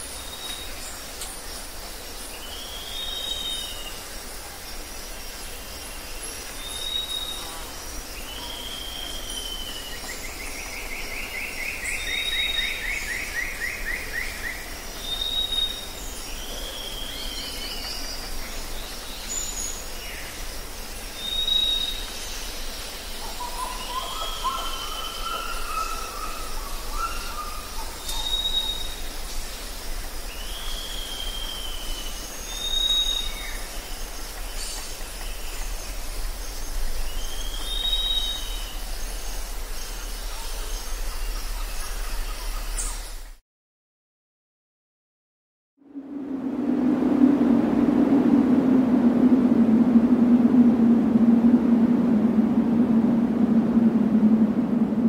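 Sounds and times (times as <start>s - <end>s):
steady low hiss: 0.0s - 43.3s, 45.9s - 55.0s.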